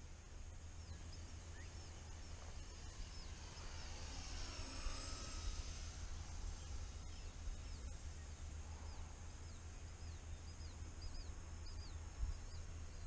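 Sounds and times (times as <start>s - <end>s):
low steady rumble: 0.0s - 13.0s
small bird chirping: 0.7s - 13.0s.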